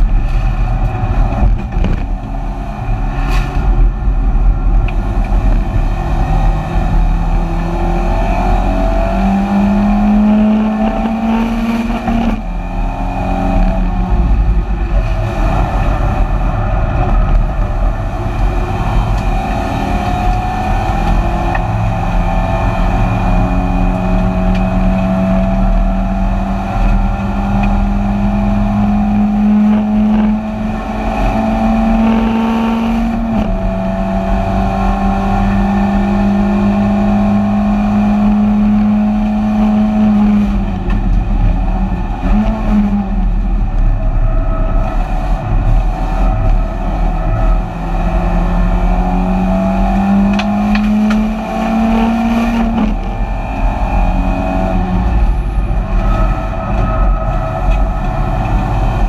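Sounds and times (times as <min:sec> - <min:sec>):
race car engine revving: 0:00.0 - 0:59.0
road and wind noise: 0:00.0 - 0:59.0.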